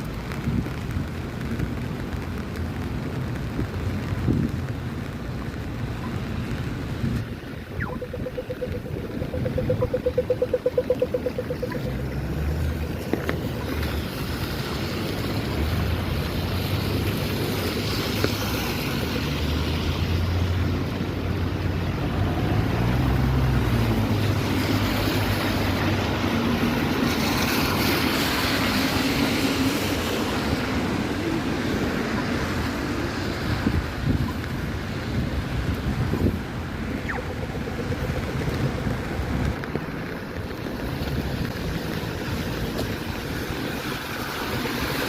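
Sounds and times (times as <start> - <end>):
vehicle hum: 0.0 - 45.0
vehicles passing: 0.0 - 45.0.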